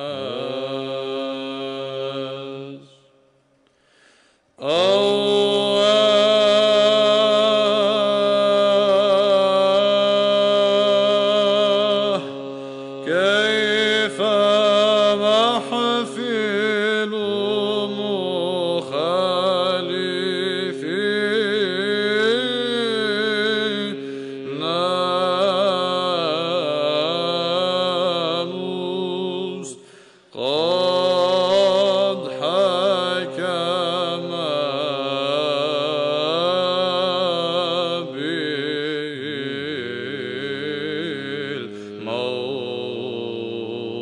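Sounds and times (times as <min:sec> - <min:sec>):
man chanting a hymn: 0:00.0 - 0:03.0, 0:04.6 - 0:44.0
held vocal drone: 0:00.0 - 0:03.1, 0:04.6 - 0:44.0.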